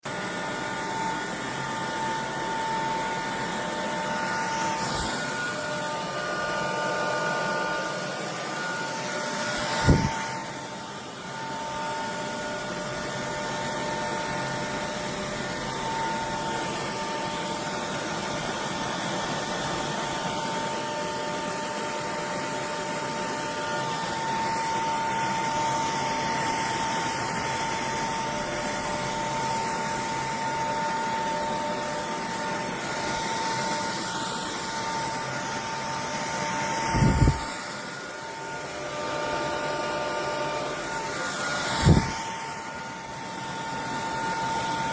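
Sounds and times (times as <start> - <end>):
vacuum motor whining: 0.1 - 44.9.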